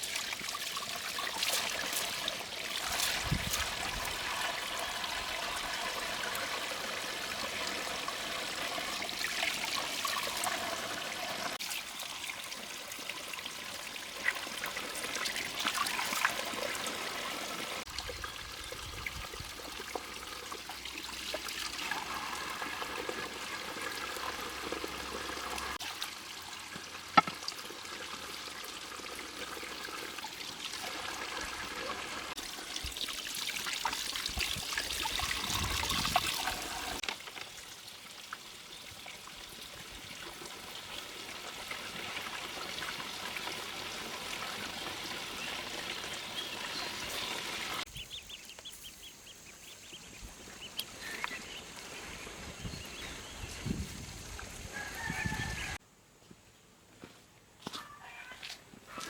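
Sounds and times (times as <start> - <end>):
water running and trickling: 0.0 - 55.8.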